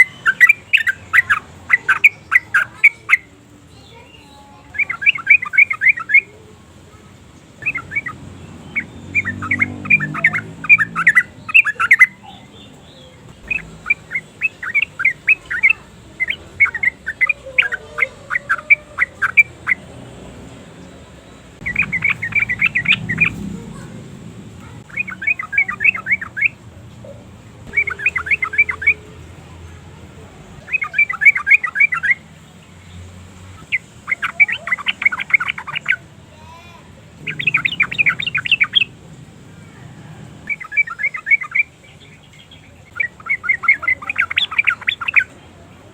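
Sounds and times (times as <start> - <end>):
bird chattering calls: 0.0 - 45.4.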